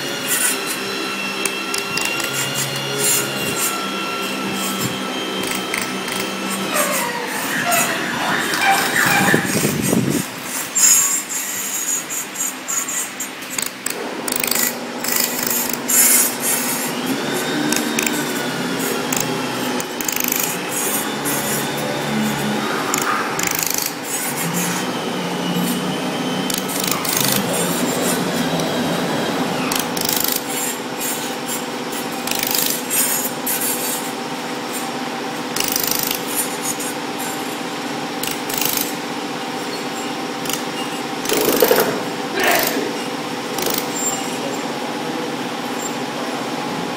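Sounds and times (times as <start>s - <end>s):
welding machine hum: 0.0s - 7.6s, 8.4s - 44.4s.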